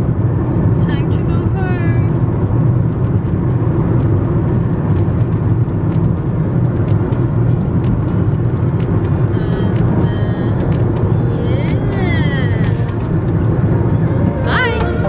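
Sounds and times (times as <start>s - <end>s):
car road and engine rumble: 0.0s - 15.0s
music playing: 1.6s - 15.0s.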